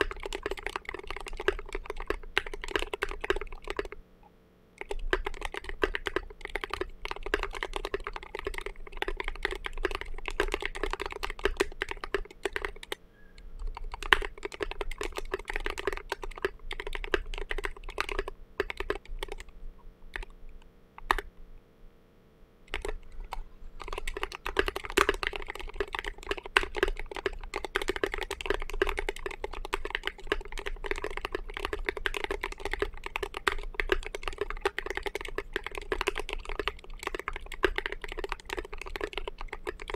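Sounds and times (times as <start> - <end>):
mechanical keyboard typing: 0.0 - 4.0, 4.8 - 13.0, 13.6 - 19.5, 20.1 - 20.4, 21.0 - 21.3, 22.7 - 39.9.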